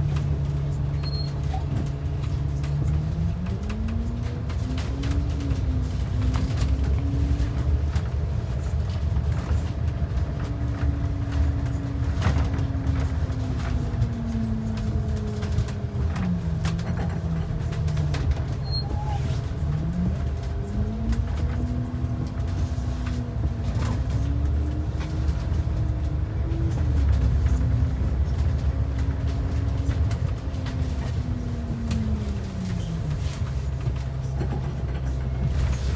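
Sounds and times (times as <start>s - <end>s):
bus engine and road rumble: 0.0s - 35.9s.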